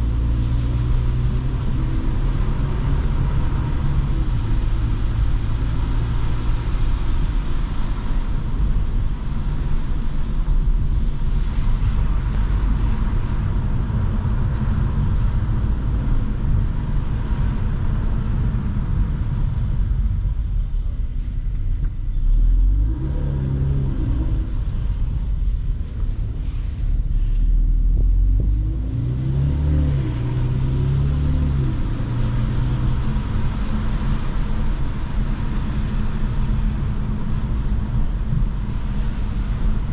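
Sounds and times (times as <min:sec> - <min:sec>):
car engine and exhaust: 0:00.0 - 0:39.9
road and tyre noise: 0:00.0 - 0:39.9.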